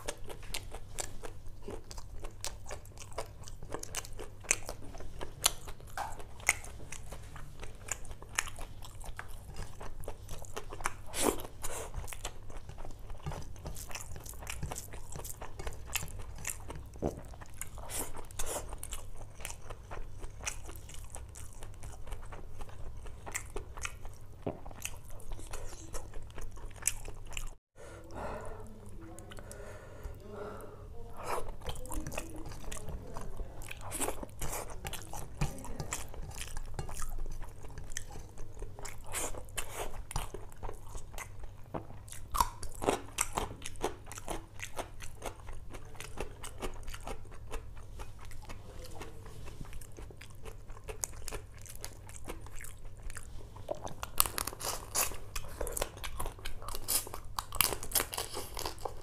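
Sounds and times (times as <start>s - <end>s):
chewing and crunching: 0.0s - 27.6s, 31.2s - 59.0s.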